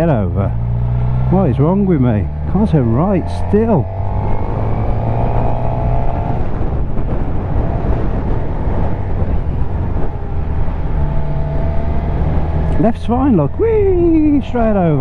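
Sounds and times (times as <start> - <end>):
wind noise on microphone: 0.2 - 15.0.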